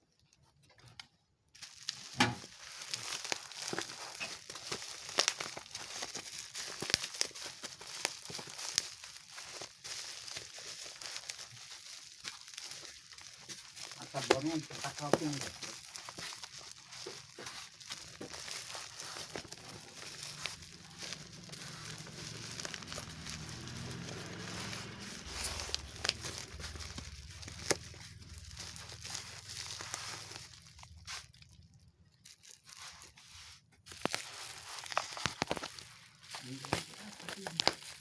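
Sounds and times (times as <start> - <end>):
packaging being torn and crinkled: 1.5 - 38.0.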